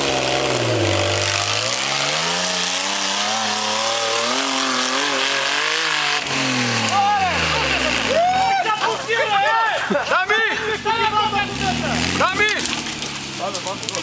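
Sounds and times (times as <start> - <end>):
buggy engine revving hard: 0.0 - 14.0.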